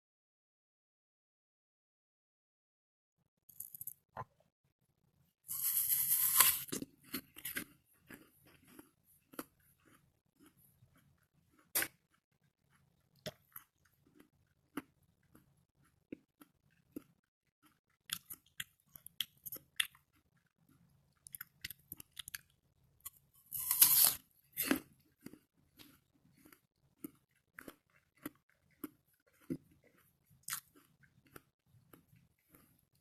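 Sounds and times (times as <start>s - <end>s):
apple being bitten and chewed: 5.5s - 33.0s.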